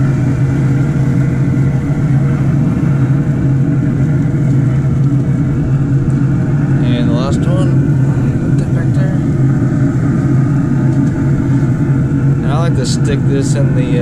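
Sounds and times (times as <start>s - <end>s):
loud motor hum: 0.0s - 14.0s
steady tones: 0.0s - 14.0s.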